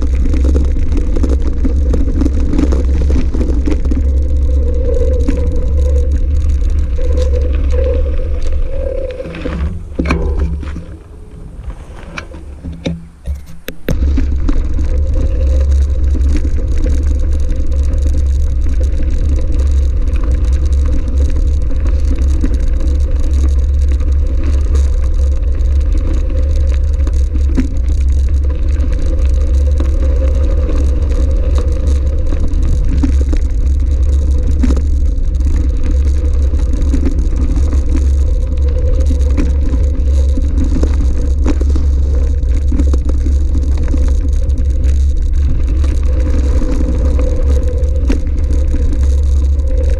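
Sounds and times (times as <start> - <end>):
tyres crunching over gravel: 0.0 - 49.9
wind and vibration rumble: 0.0 - 49.9.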